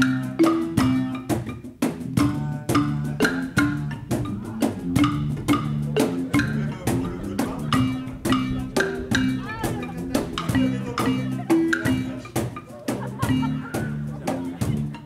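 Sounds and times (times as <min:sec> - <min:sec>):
background music with clicky percussion: 0:00.0 - 0:15.0.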